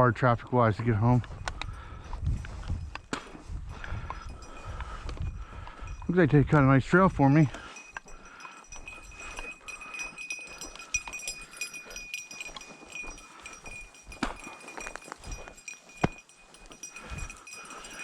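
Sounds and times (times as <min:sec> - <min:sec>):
footsteps in dry grass: 0:01.1 - 0:06.1, 0:07.3 - 0:18.0.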